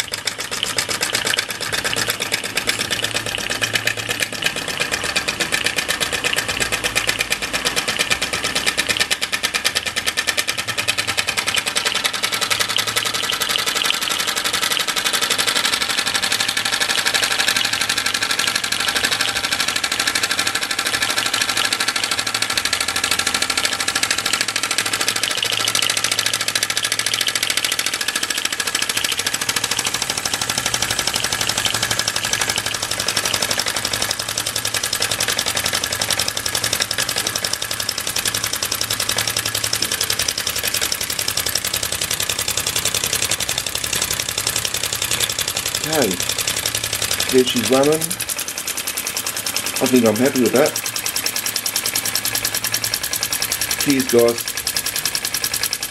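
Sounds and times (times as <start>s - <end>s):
toy steam engine chuffing: 0.0s - 55.9s.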